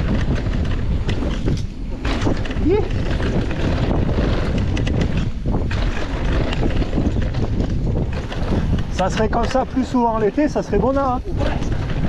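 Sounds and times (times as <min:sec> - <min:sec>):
bike rattles and clicks: 0:00.0 - 0:12.0
bike tyres rolling on dirt: 0:00.0 - 0:12.0
wind buffeting microphone: 0:00.0 - 0:12.0.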